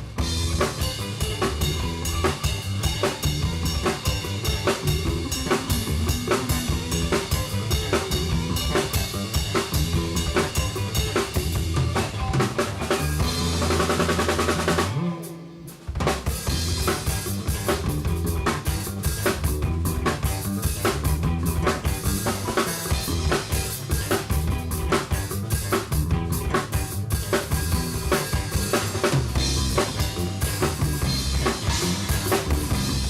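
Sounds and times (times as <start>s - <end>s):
live band playing loudly: 0.0s - 33.0s.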